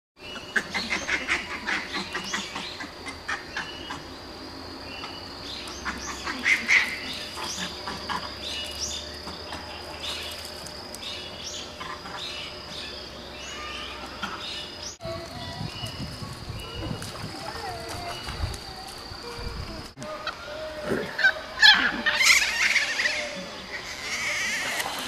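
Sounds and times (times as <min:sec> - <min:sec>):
steady high-pitched whine: 0:00.2 - 0:25.0.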